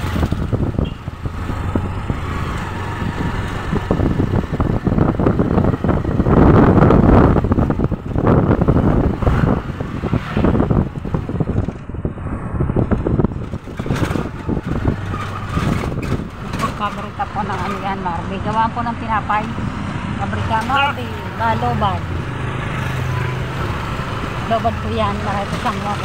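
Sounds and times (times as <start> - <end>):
vehicle engine and road noise: 0.0 - 26.0
wind buffeting microphone: 0.0 - 26.0.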